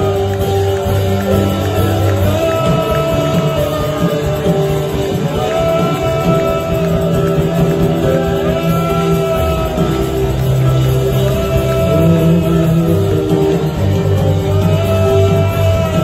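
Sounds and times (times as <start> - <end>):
bass guitar: 0.0 - 16.0
electric guitar: 0.0 - 16.0.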